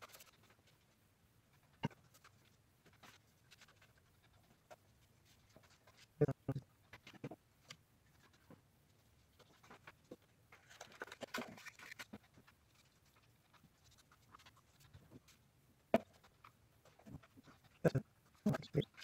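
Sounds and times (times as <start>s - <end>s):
paper and chipboard rustling: 0.0s - 6.2s, 6.8s - 19.0s.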